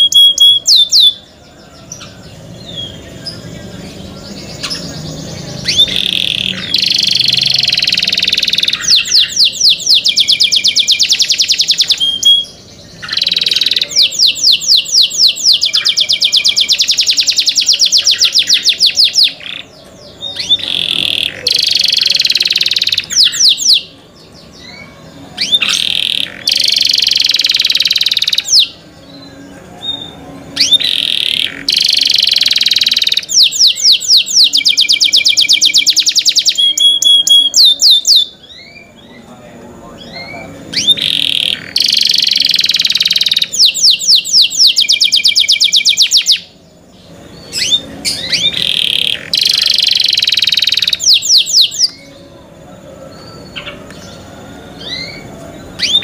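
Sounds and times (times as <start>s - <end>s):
canary singing chirps and trills: 0.0s - 56.0s.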